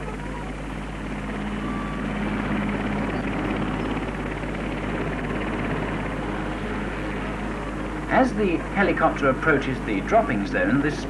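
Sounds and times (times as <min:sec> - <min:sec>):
helicopter turbine and rotor: 0:00.0 - 0:11.0.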